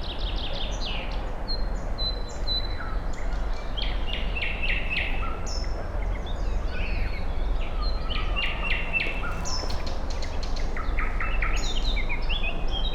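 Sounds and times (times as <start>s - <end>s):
songbirds singing and chirping: 0.0s - 12.9s.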